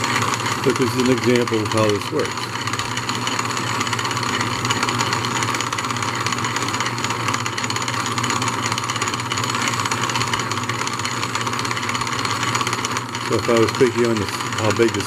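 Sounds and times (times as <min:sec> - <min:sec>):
lathe humming and whirring: 0:00.0 - 0:15.0.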